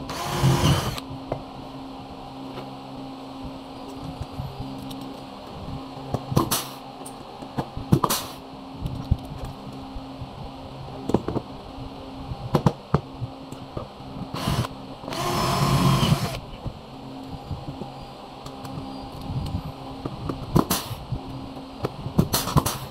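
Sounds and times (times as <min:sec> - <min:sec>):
steady machine hum: 0:00.0 - 0:22.9.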